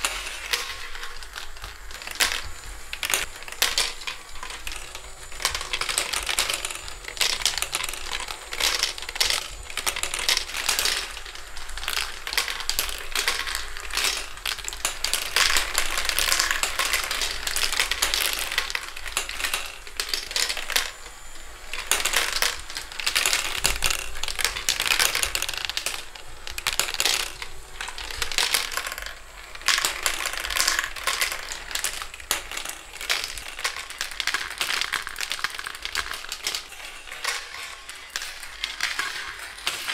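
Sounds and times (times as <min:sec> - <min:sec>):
marbles rattling through plastic run: 0:00.0 - 0:39.9.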